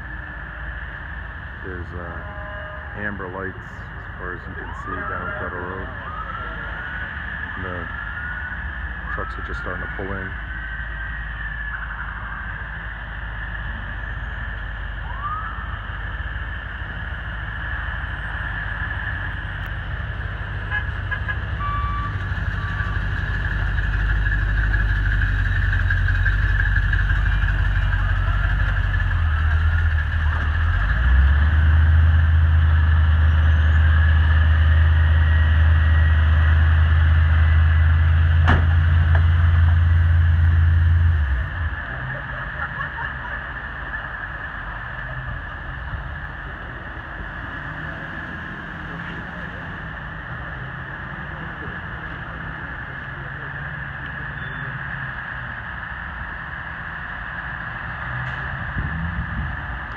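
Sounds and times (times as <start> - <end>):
truck engines droning: 0.0 - 59.9.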